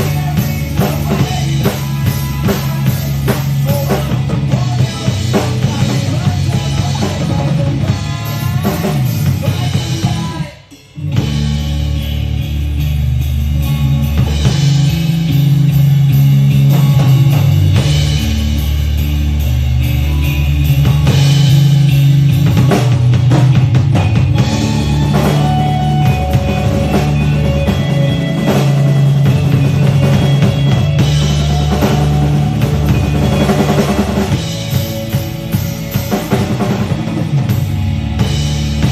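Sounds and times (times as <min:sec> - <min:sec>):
drum kit playing: 0:00.0 - 0:38.9
rock backing track: 0:00.0 - 0:38.9
sustained bass notes: 0:00.0 - 0:38.9.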